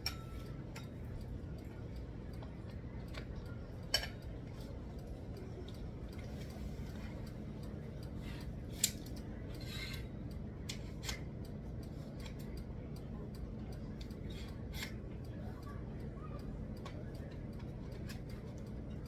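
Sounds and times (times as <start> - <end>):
light clicks of parts: 0.0 - 19.0.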